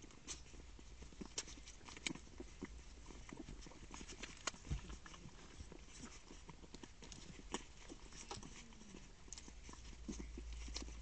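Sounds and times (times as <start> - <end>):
puppies suckling: 0.0 - 11.0.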